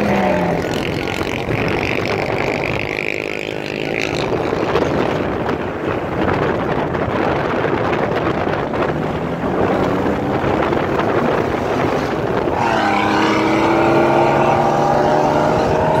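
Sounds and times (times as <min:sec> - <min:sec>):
car engine drone: 0:00.0 - 0:16.0
wind and road rush: 0:00.0 - 0:16.0.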